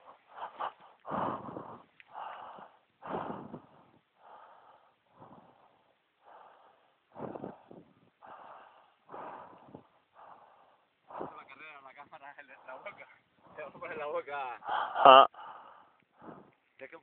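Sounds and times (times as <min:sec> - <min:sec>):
person breathing hard: 0:00.0 - 0:16.8.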